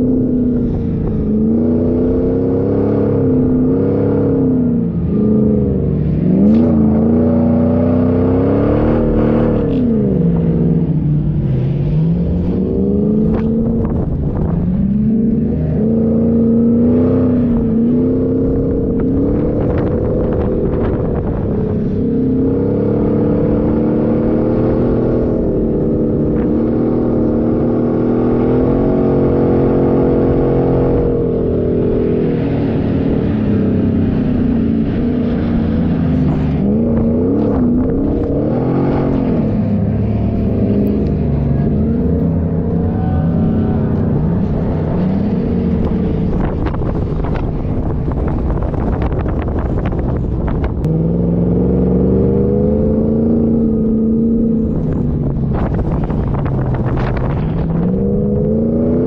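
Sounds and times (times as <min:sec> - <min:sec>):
off-road vehicle engine: 0:00.0 - 0:59.0
steady rushing noise: 0:08.8 - 0:29.0, 0:30.2 - 0:59.0.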